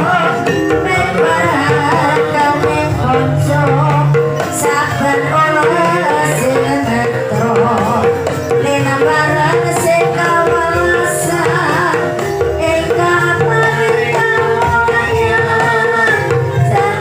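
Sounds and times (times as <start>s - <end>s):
hand drum patterns: 0.0s - 17.0s
ringing pitched notes: 0.0s - 17.0s
wavering melody line: 0.0s - 17.0s.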